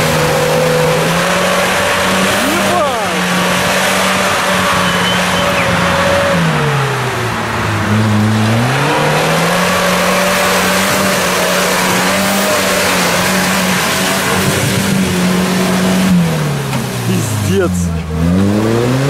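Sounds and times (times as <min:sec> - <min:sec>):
off-road engine revving: 0:00.0 - 0:19.0.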